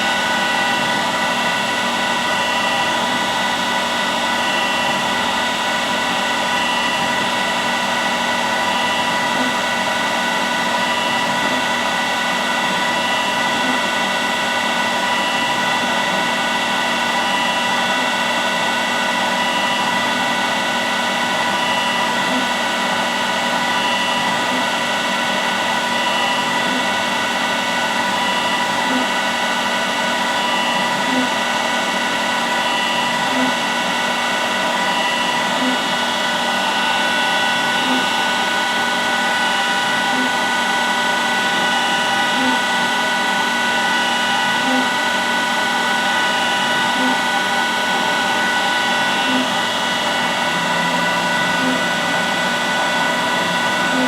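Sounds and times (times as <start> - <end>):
machining center mechanical whine: 0.0 - 54.0
motor and fan hum: 0.0 - 54.0.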